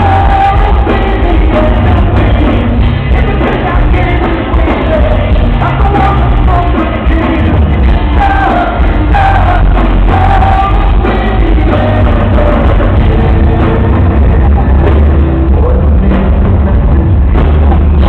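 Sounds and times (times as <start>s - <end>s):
drum kit: 0.0s - 18.0s
live heavy rock on cellos: 0.0s - 18.0s
man singing: 0.0s - 18.0s.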